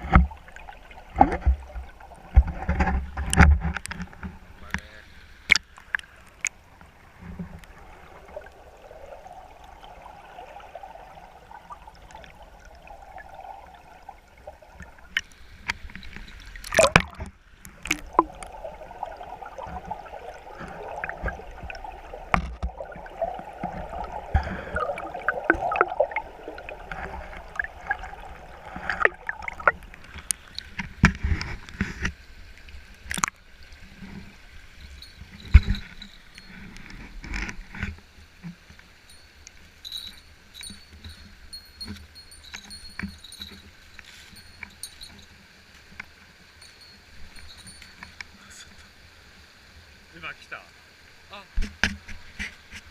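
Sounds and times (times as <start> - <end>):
water gurgling and lapping: 0.0 - 52.9.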